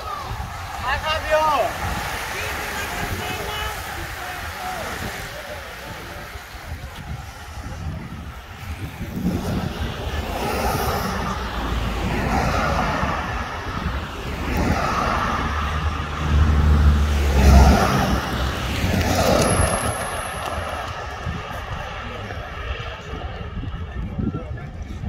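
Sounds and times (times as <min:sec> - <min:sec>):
cars passing slowly: 0:00.0 - 0:25.0.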